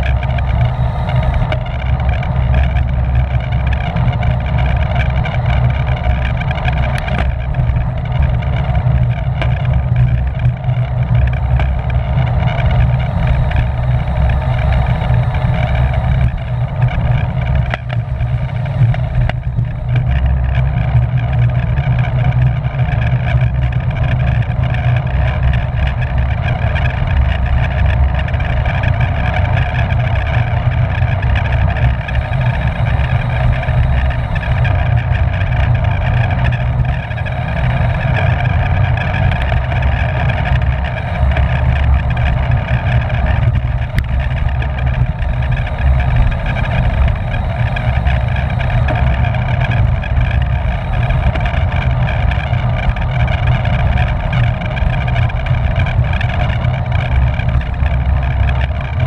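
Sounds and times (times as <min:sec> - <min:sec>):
low rumble: 0:00.0 - 0:59.0
wind buffeting microphone: 0:00.0 - 0:59.0.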